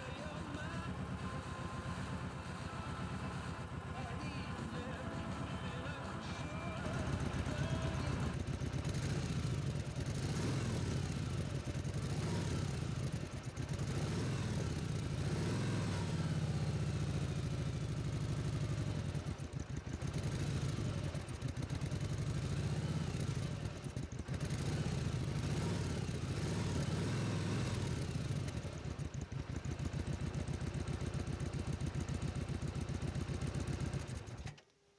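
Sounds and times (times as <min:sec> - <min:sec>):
motorcycle engine running: 0:00.0 - 0:34.6.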